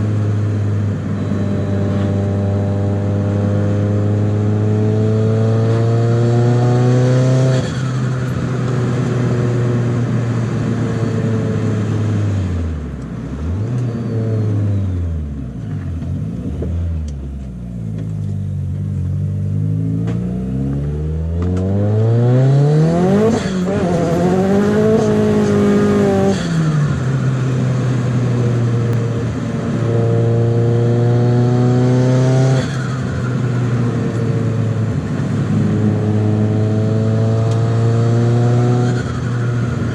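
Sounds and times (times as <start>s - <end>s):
turbocharged car engine revving: 0.0s - 17.2s, 18.0s - 39.9s.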